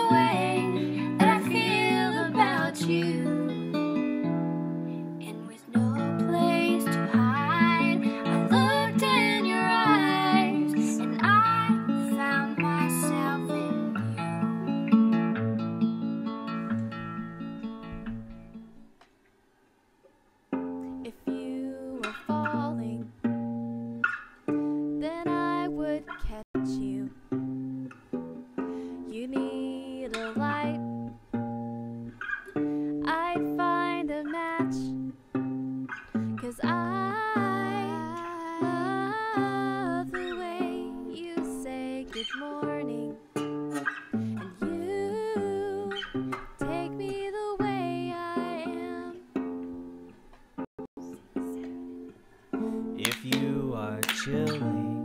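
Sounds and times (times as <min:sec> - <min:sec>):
acoustic guitar picking: 0:00.0 - 0:19.0, 0:20.5 - 0:55.0.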